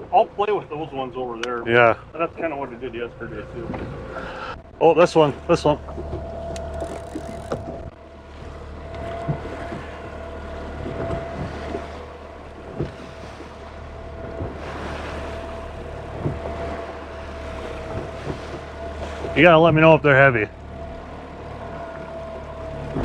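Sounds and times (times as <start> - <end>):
outboard motor running: 0.0 - 23.0
water noise: 0.0 - 23.0
wind: 0.0 - 23.0.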